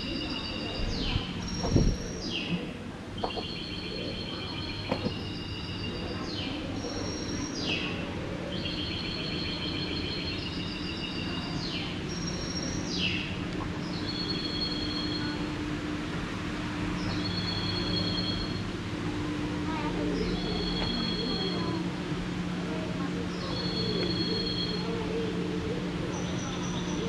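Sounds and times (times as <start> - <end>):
birdsong trills and chirps: 0.0 - 2.6, 3.2 - 15.6, 17.0 - 18.8, 19.7 - 21.9, 23.2 - 27.0
steady low hum: 0.0 - 27.0.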